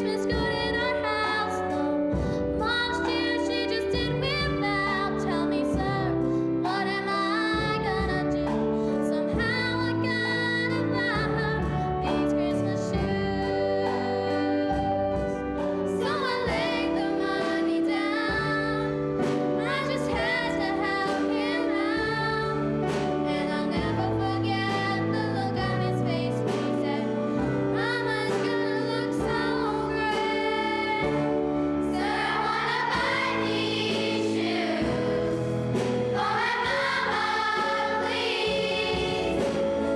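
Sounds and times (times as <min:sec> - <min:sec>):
singers with instrumental accompaniment: 0:00.0 - 0:39.9.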